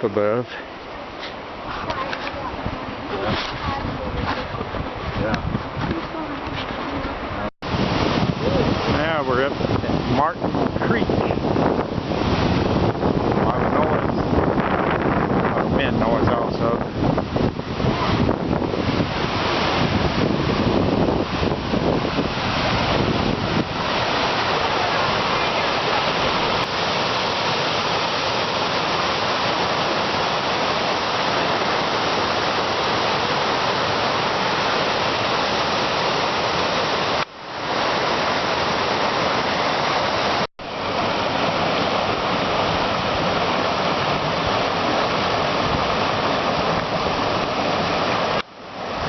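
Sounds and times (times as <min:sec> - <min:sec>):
water rushing over falls: 0:00.0 - 0:49.0
wind buffeting microphone: 0:01.5 - 0:49.0.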